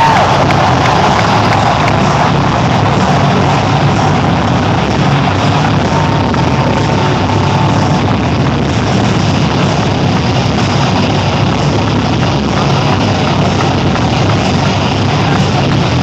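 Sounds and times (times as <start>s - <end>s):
stadium crowd din: 0.0s - 16.0s.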